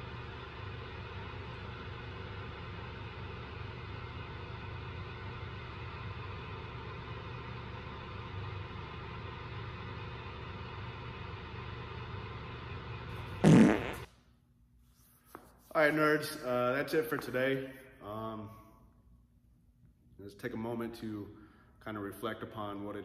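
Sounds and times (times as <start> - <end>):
low hum with hiss: 0.0 - 23.0.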